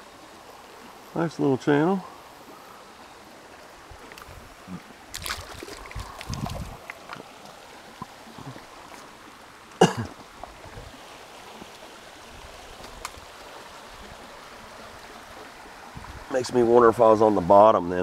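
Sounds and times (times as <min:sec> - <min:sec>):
flowing creek water: 0:00.0 - 0:18.0.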